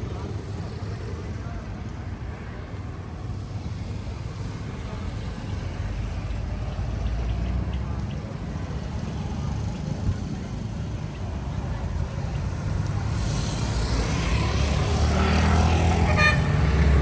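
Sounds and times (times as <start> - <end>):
motor vehicle running: 0.0 - 17.0.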